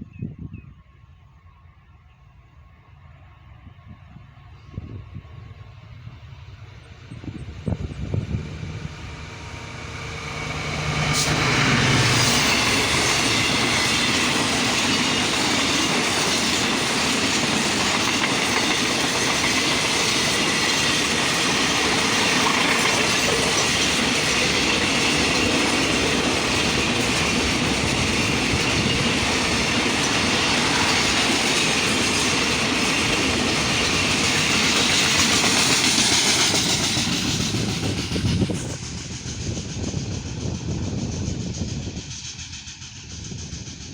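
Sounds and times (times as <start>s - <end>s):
diesel locomotive engine hum: 0.1s - 43.9s
train wheels clattering on rails: 7.2s - 43.9s.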